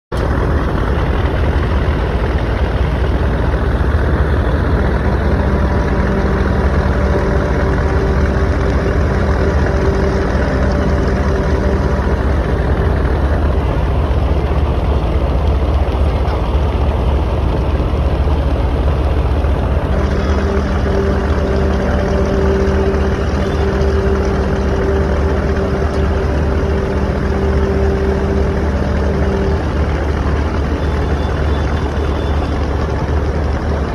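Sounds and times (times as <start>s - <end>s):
boat engine deep rumble: 0.1s - 33.9s
droning hum: 0.1s - 33.9s.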